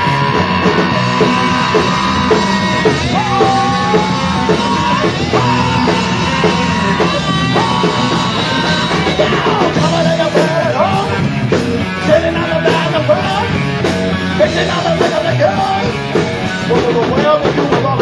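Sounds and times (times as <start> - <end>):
singer at microphone: 0.0 - 13.6, 14.2 - 18.0
live funk-metal band: 0.0 - 18.0.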